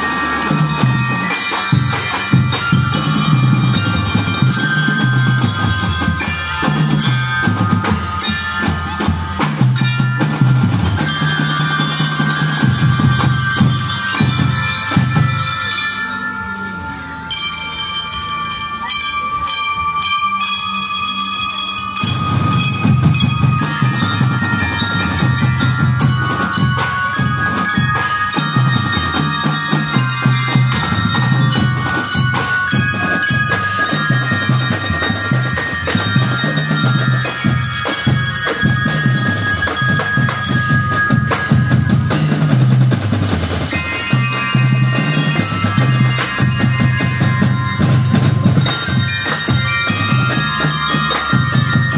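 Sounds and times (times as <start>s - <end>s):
marching drums beating: 0.0s - 15.7s, 22.0s - 51.9s
mallet bells playing melody: 0.0s - 51.9s.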